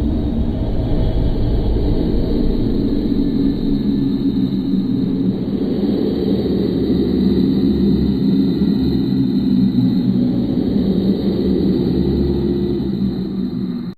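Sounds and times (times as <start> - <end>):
loud low rumbling drone: 0.0 - 13.9.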